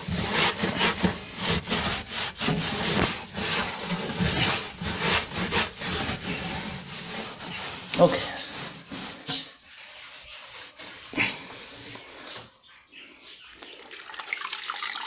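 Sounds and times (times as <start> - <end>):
rough scrubbing inside oven: 0.0 - 12.1.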